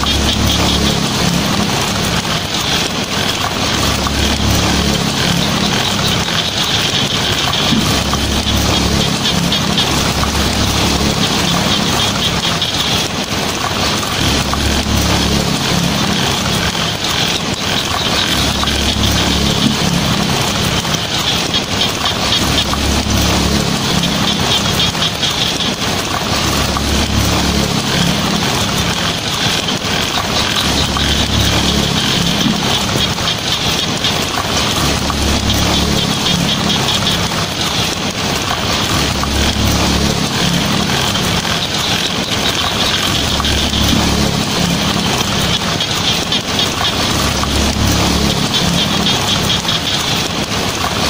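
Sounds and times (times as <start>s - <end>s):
heavy rain on a tin roof: 0.0s - 51.0s.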